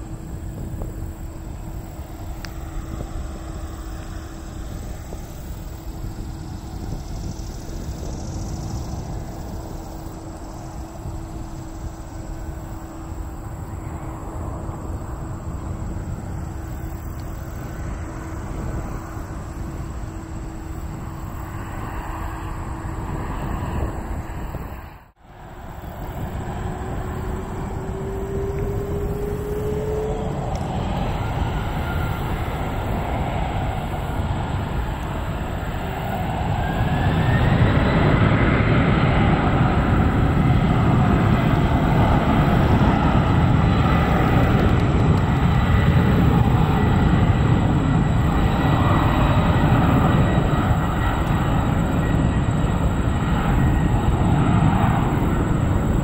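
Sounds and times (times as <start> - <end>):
jet engines rumbling and whining: 0.0 - 56.0.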